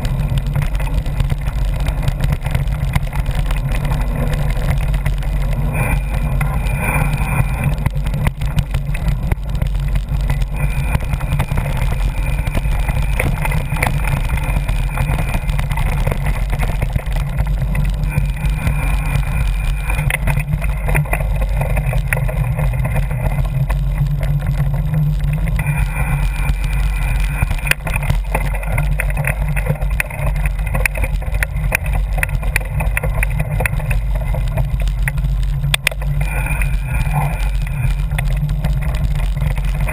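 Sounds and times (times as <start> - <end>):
bike rattling over ground: 0.0 - 39.9.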